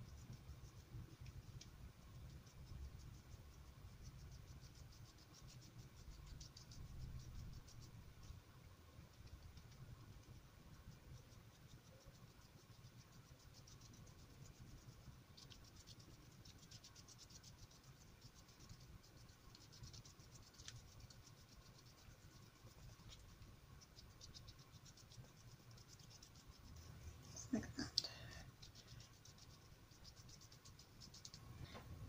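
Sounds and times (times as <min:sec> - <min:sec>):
low room hum: 0:00.0 - 0:32.0
paintbrush dabbing on wet paper: 0:00.0 - 0:32.0.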